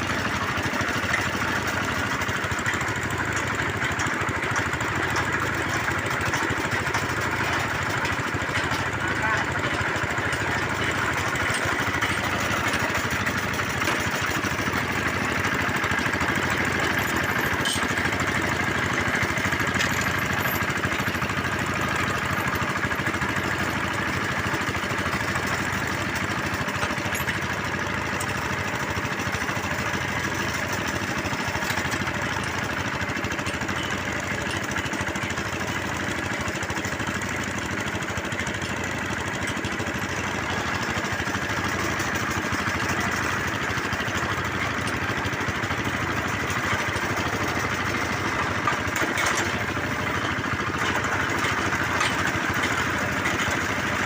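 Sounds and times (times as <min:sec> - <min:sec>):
drilling machine engine running: 0:00.0 - 0:54.0.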